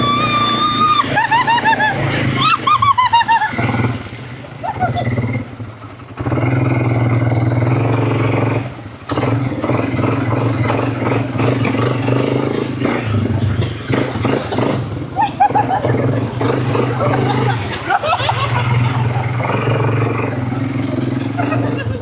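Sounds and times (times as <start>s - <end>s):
quad bike engine revving: 0.0s - 22.0s.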